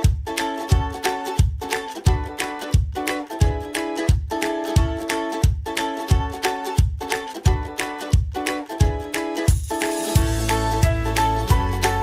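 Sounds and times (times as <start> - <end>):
kick drum beat: 0.0 - 12.0
plucked strings: 0.0 - 12.0.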